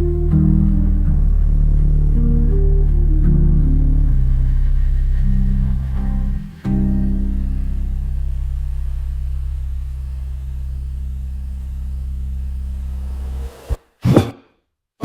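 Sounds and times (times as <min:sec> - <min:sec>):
low ambient drone: 0:00.0 - 0:13.8.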